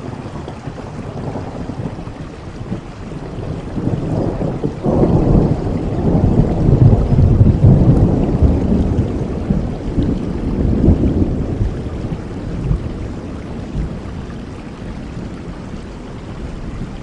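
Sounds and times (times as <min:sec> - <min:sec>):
low roll of thunder: 0:00.0 - 0:17.0
steady rain: 0:00.0 - 0:17.0.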